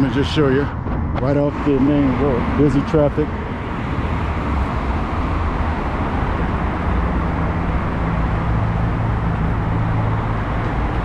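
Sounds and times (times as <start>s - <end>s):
road traffic noise: 0.0s - 11.0s
vehicle engine humming low: 0.0s - 11.0s.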